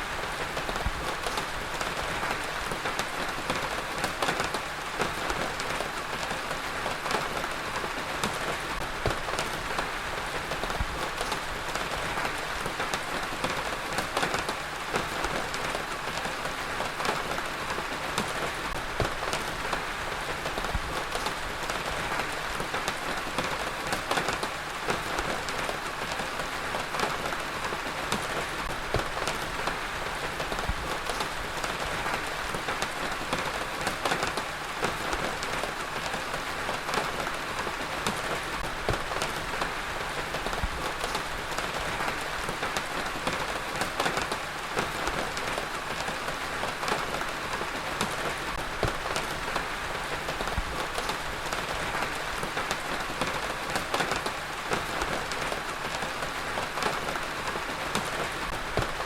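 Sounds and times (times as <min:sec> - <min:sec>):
heavy rain pattering: 0:00.0 - 0:59.0.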